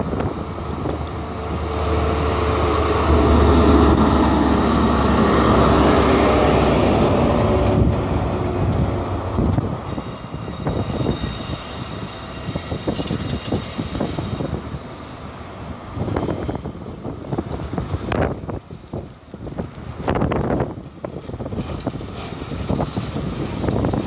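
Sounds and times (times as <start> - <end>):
diesel locomotive engine drone: 0.0 - 24.0
train wheels rattling on rails: 0.0 - 24.0.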